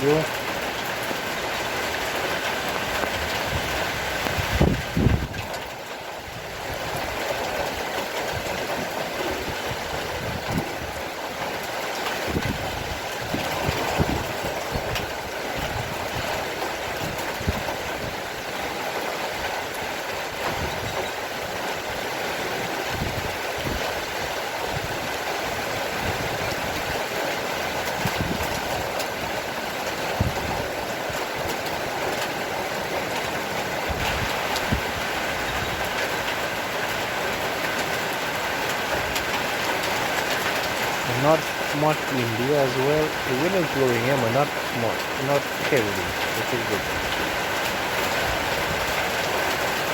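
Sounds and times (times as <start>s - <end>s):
heavy rain falling: 0.0s - 49.9s
sharp drips and splashes: 0.0s - 49.9s.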